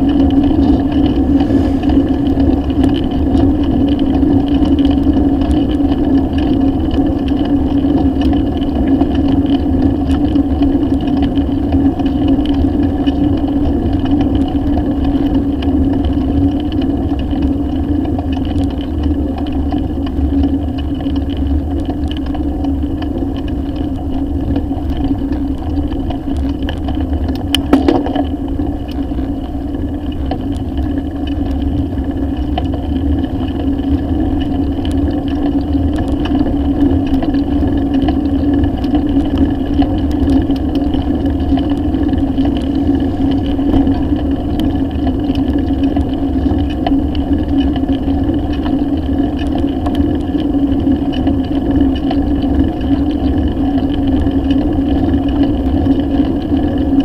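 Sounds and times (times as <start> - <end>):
bicycle tyre rumble: 0.0 - 57.0
constant hum: 0.0 - 57.0
wind noise: 0.0 - 57.0.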